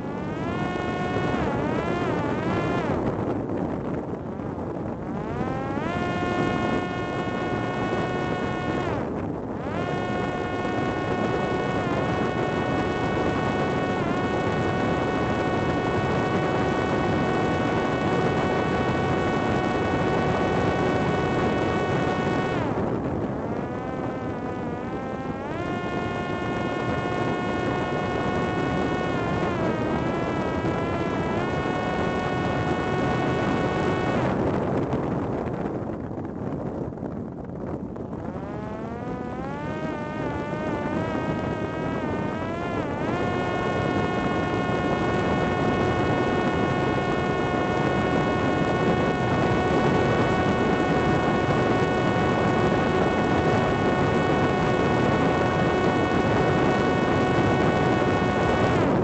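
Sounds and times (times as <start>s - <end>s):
drone motor and propeller whining: 0.0s - 59.0s
wind noise on microphone: 0.0s - 59.0s.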